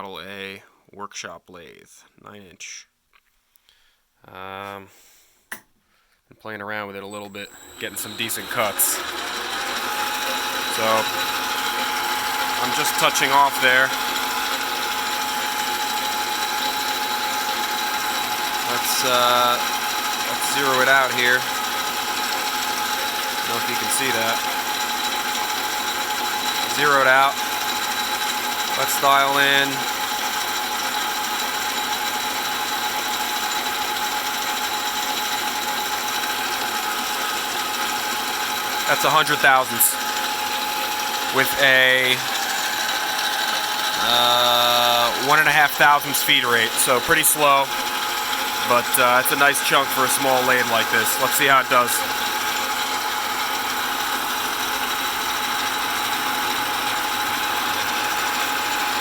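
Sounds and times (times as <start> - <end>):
metal lathe running: 7.1 - 59.0
motor whine: 7.1 - 59.0.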